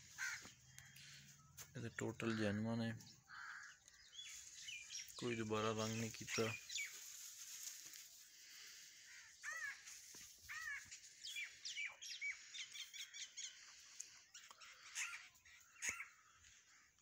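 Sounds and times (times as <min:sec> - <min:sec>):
crows cawing: 0:00.0 - 0:04.7, 0:07.9 - 0:17.0
small birds chirping: 0:00.0 - 0:17.0.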